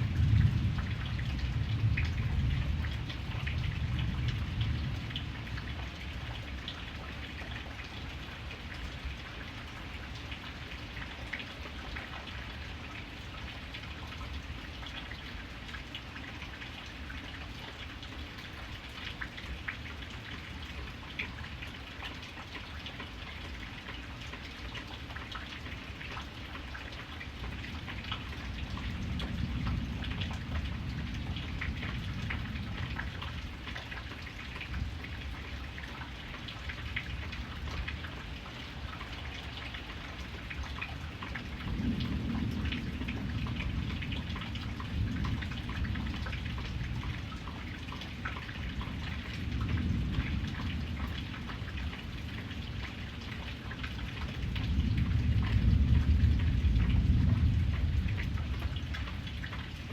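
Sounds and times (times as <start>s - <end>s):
raindrops ticking on a surface: 0.0s - 59.9s.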